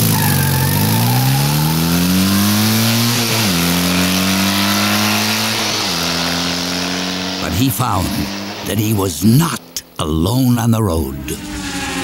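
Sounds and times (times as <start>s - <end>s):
motorcycle engine accelerating: 0.0s - 9.9s, 11.2s - 12.0s.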